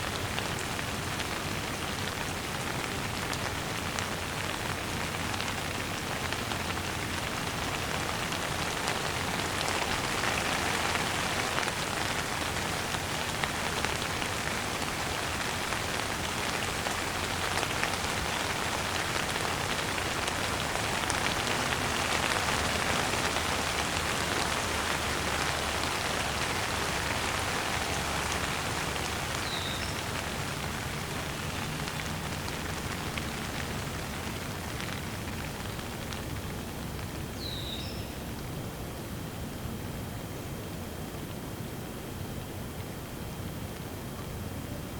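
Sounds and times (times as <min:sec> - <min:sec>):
steady rain patter: 0:00.0 - 0:44.9.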